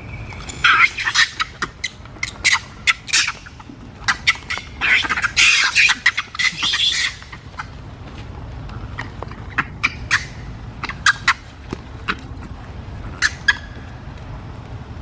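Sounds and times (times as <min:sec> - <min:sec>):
monkeys shrieking: 0:00.0 - 0:07.8, 0:08.7 - 0:14.0.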